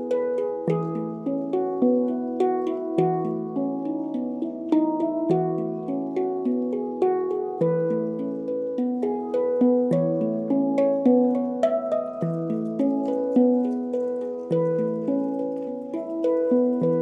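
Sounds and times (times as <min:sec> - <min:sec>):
handpan ringing notes: 0:00.0 - 0:17.0.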